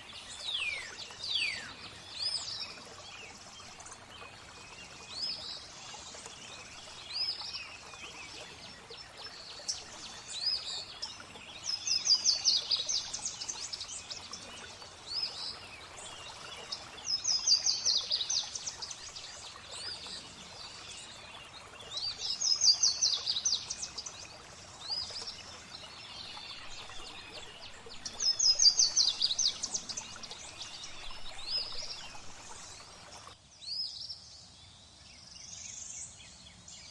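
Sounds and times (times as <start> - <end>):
flowing water: 0.0 - 33.4
songbird singing: 0.0 - 34.4.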